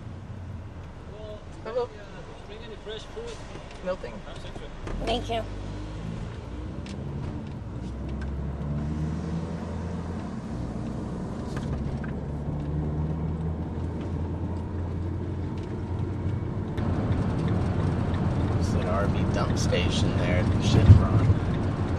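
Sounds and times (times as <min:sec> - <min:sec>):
road noise: 0:00.0 - 0:21.9
van engine accelerating: 0:00.0 - 0:21.9.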